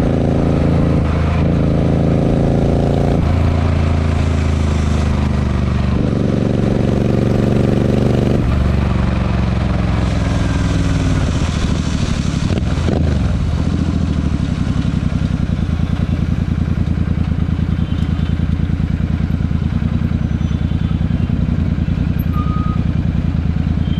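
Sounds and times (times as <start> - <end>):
motorcycle engine revving and idling: 0.0 - 23.9.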